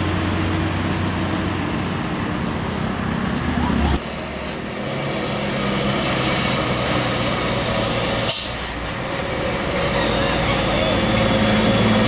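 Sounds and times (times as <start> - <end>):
diesel trucks passing: 0.0 - 12.0
traffic noise: 0.0 - 12.0.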